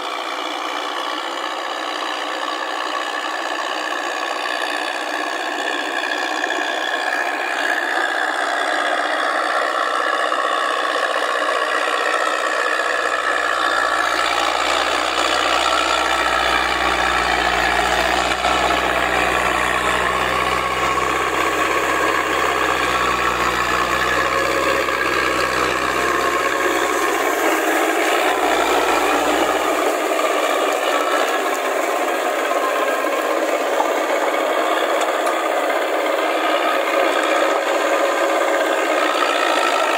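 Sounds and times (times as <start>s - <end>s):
deeper engine drone: 0.0s - 39.9s
track clatter and rattle: 0.0s - 39.9s
tractor engine under load: 0.0s - 39.9s.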